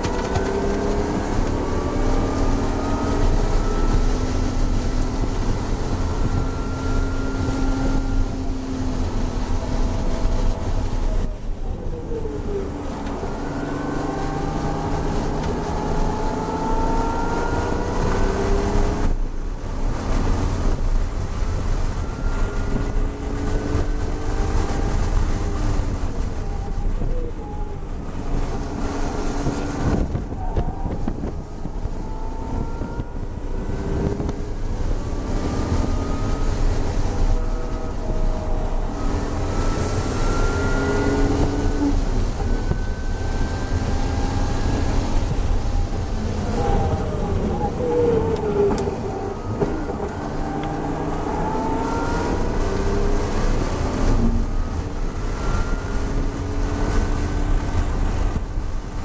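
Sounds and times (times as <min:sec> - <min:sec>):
car engine revving: 0:00.0 - 0:59.0
road and wind noise: 0:00.0 - 0:59.0.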